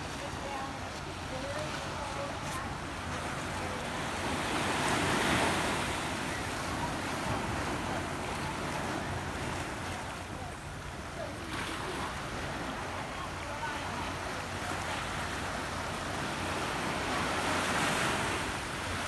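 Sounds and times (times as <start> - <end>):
ocean waves breaking on rocks: 0.0 - 19.0.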